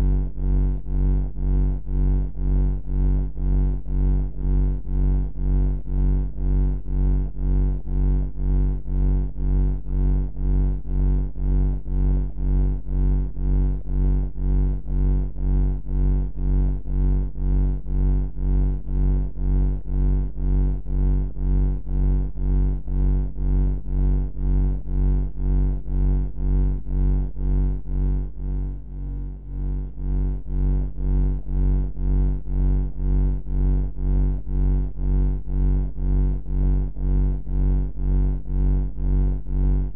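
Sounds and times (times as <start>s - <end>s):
deep pulsing ambient hum: 0.0s - 39.9s.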